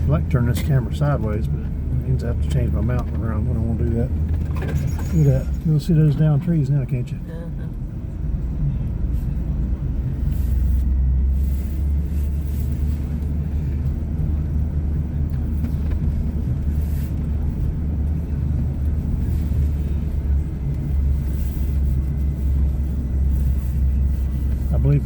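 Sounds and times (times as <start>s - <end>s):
utility vehicle engine droning: 0.0s - 25.0s.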